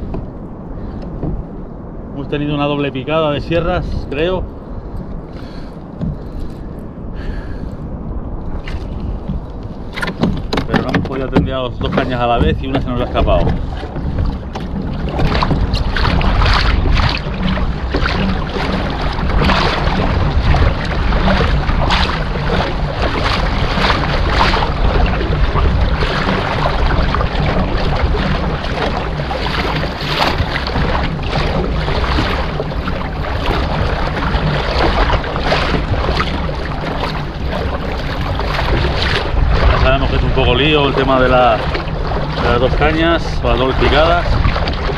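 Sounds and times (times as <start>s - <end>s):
water lapping around kayak: 0.0s - 44.9s
wind buffeting microphone: 0.0s - 44.9s.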